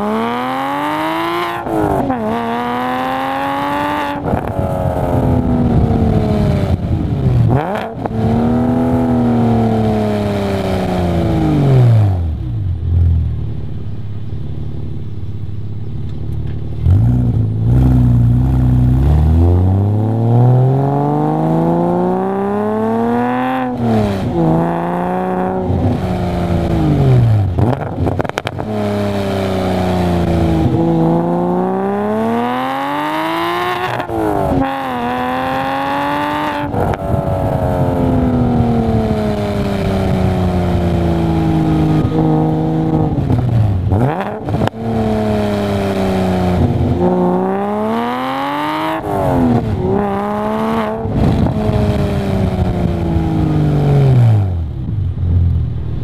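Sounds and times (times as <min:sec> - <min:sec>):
car exhaust note revving: 0:00.0 - 0:56.0.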